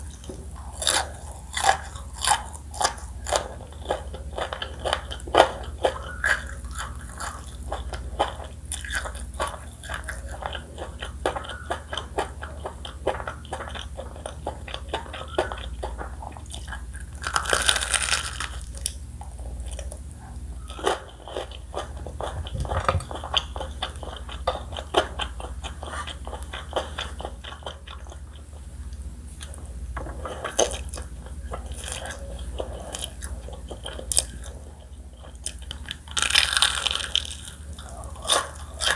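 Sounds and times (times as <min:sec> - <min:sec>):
mouth chewing and crunching: 0:00.0 - 0:38.9.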